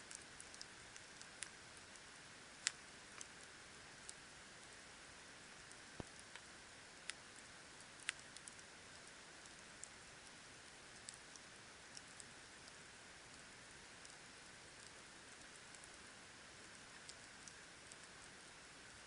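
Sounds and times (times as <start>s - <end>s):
campfire wood crackling: 0.0s - 19.0s
soft steady hiss of fire: 0.0s - 19.0s.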